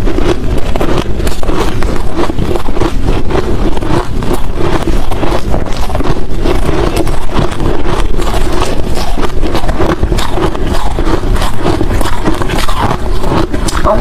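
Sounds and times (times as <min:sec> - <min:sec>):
chewing crushed ice: 0:00.0 - 0:14.0.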